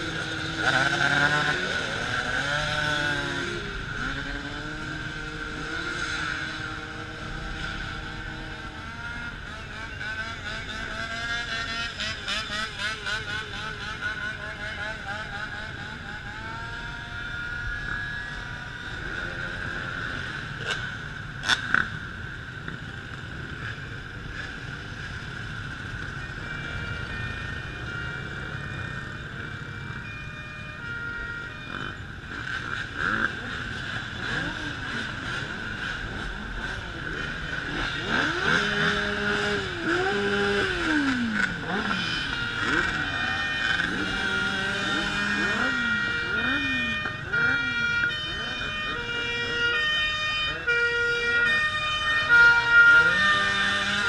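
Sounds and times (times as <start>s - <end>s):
motorcycle engines buzzing and revving: 0.0s - 54.0s.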